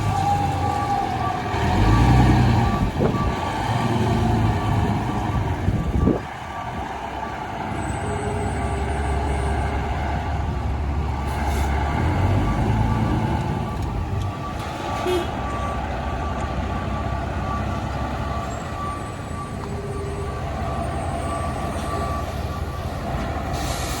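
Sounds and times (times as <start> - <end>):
diesel engine running low: 0.0 - 24.0
reversing alarm: 0.0 - 24.0.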